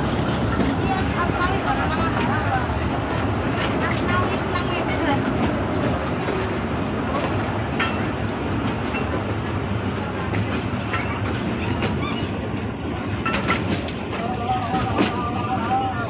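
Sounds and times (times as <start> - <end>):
train wheels rumbling on rail: 0.0 - 16.0
wheels clacking at rail joints: 0.0 - 16.0.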